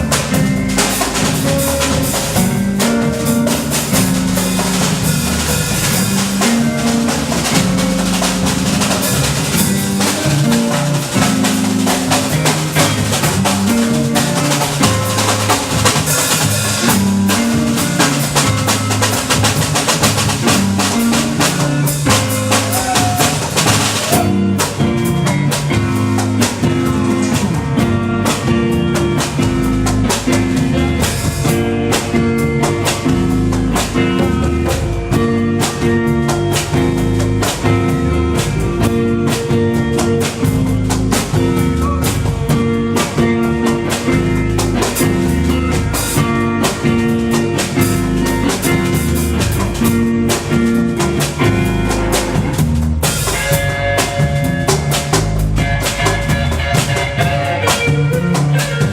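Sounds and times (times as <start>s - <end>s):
bass line: 0.0s - 58.9s
drum kit: 0.0s - 58.9s
plucked notes: 0.0s - 58.9s.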